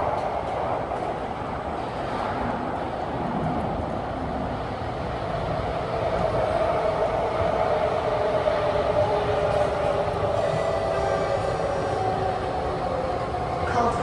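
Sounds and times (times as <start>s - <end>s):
metro train rumbling in tunnel: 0.0s - 14.0s.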